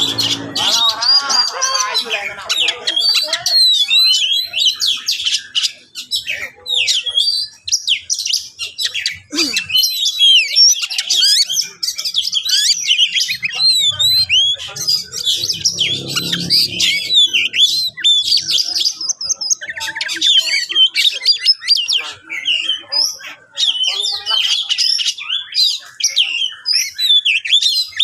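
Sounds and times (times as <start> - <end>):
bird singing: 0.0 - 28.0.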